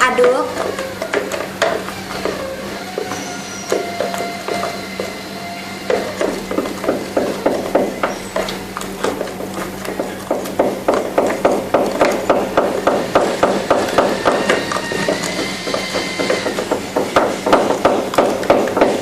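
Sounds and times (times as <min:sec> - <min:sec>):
stick knocking and scraping bowl: 0:00.1 - 0:19.0.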